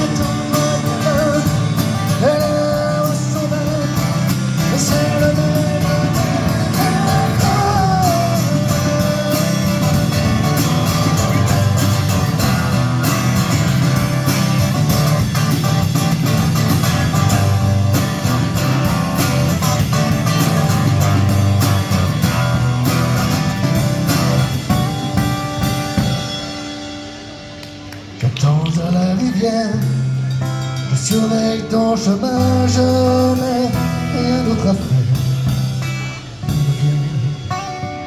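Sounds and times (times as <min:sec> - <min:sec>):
band playing guitar-led music: 0:00.0 - 0:38.0.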